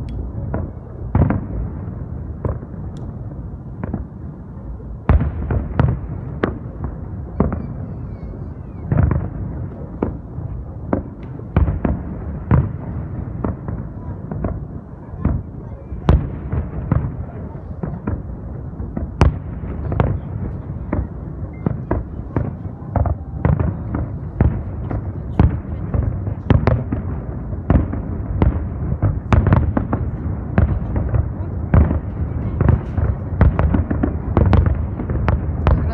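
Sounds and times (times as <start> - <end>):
low rumble of launches: 0.0 - 35.9.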